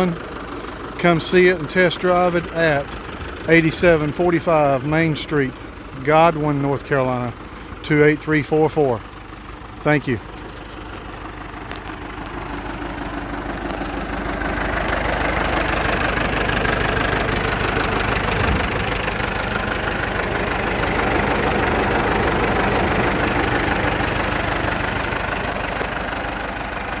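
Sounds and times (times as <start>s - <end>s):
diesel tractor engine running: 0.0s - 27.0s.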